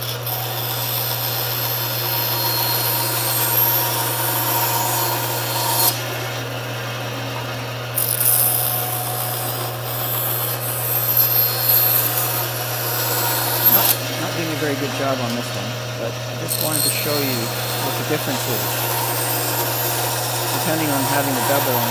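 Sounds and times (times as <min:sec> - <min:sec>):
saw blade cutting: 0:00.0 - 0:06.6, 0:07.3 - 0:21.9
band saw motor hum: 0:00.0 - 0:21.9.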